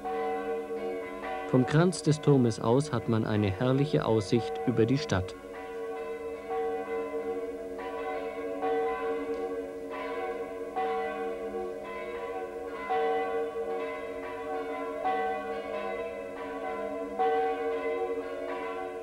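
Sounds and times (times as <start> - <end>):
church bells ringing in a peal: 0.0 - 19.0.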